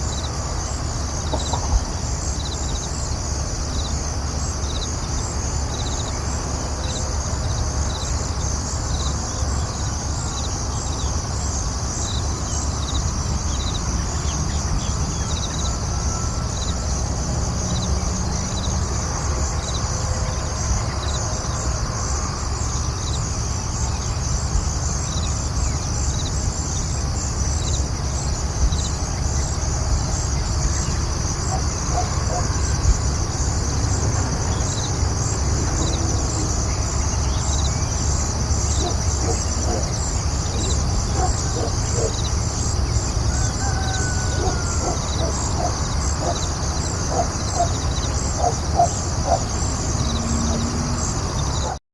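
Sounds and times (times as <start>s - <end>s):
constant low rumble: 0.0s - 51.8s
insects chirring: 0.0s - 51.8s.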